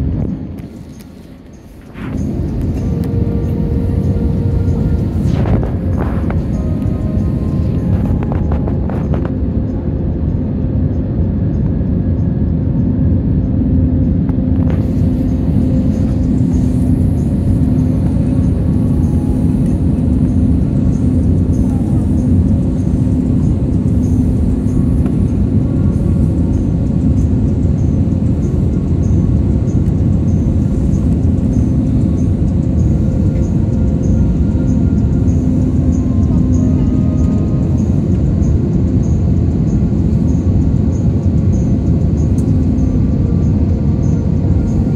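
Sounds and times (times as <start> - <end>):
airliner cabin engine rumble: 0.0 - 44.9.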